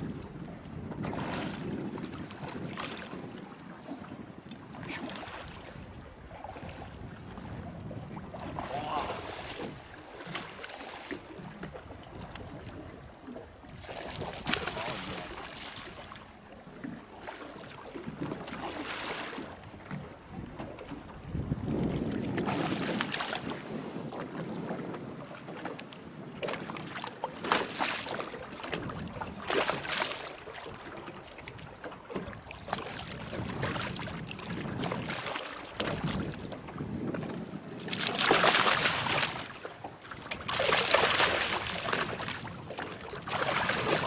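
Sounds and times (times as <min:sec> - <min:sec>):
wind on microphone: 0:00.0 - 0:17.0, 0:17.7 - 0:44.0.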